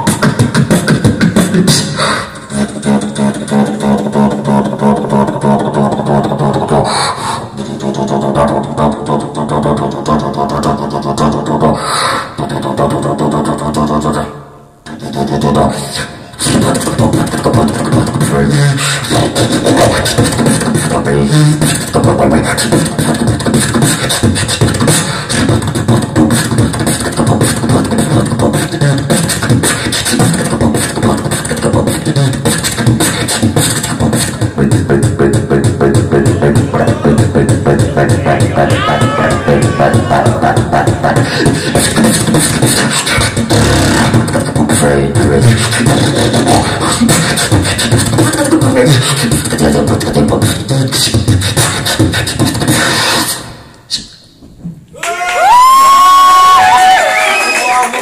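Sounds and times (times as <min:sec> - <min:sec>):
beatboxing into microphone: 0:00.0 - 0:58.0.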